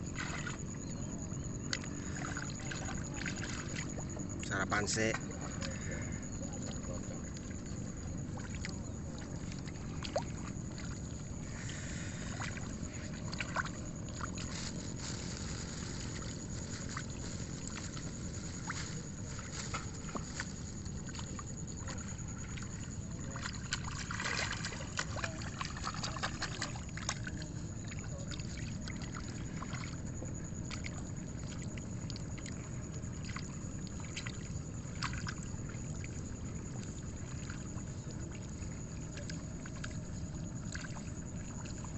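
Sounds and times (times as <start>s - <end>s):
steady low rumble: 0.0s - 41.9s
water splashing and sloshing: 0.0s - 41.9s.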